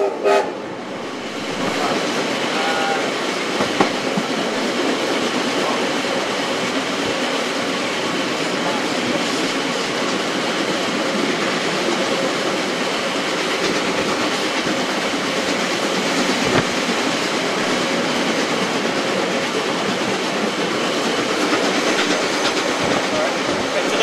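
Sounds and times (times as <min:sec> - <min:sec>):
train wheels running on rails: 0:00.0 - 0:24.0.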